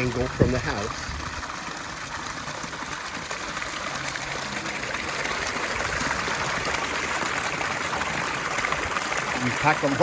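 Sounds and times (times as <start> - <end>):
waterfall cascading and splashing: 0.0 - 10.0.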